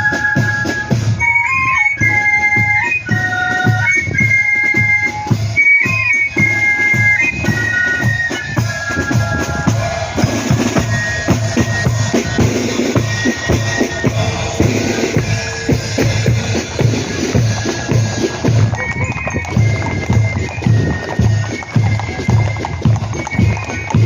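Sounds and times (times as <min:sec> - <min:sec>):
flute melody: 0:00.0 - 0:24.0
marching drumbeat: 0:00.0 - 0:24.0.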